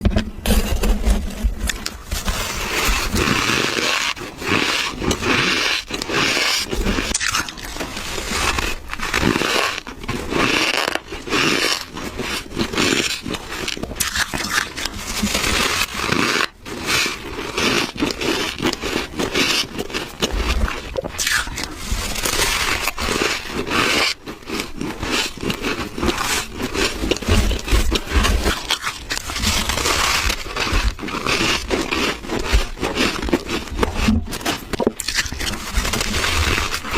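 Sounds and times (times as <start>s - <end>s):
ice being bitten and crunched: 1.8s - 36.9s.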